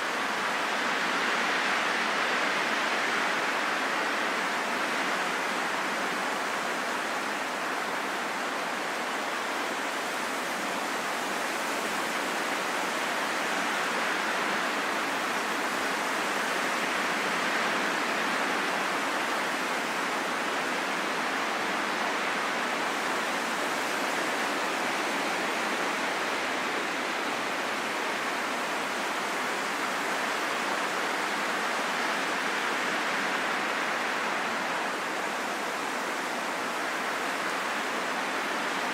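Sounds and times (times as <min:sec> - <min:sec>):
rushing wind: 0:00.0 - 0:38.9.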